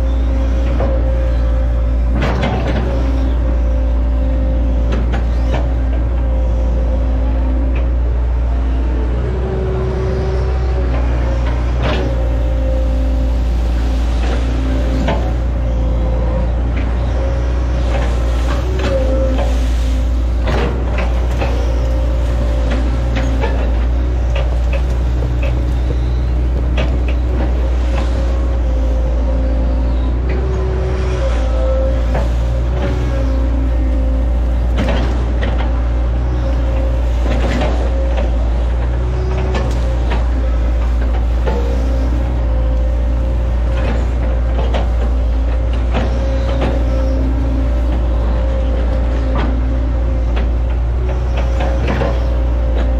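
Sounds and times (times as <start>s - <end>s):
excavator diesel engine running: 0.0s - 52.9s
wavering hydraulic whine: 0.0s - 52.9s.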